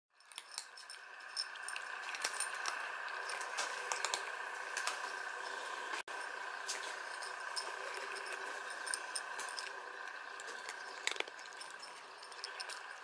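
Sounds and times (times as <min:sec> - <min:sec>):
teeth and kibble clicking on bowls: 0:00.1 - 0:05.6, 0:06.2 - 0:13.0
cats crunching dry kibble: 0:00.3 - 0:05.6, 0:06.6 - 0:13.0.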